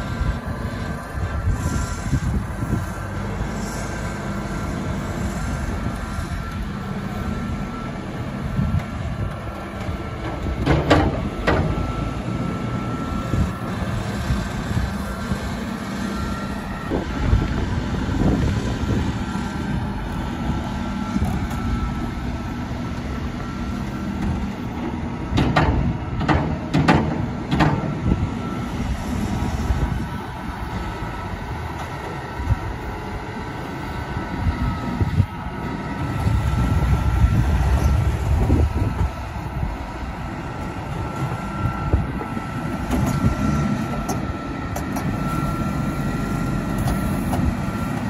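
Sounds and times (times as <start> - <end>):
diesel engines running: 0.0 - 48.0.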